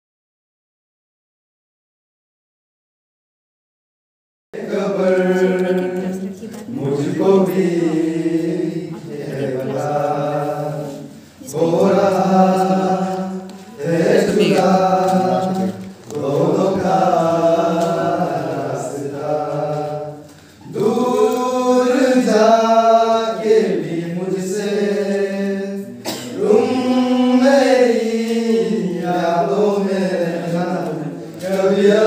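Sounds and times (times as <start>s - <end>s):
group singing unaccompanied: 4.6s - 32.0s.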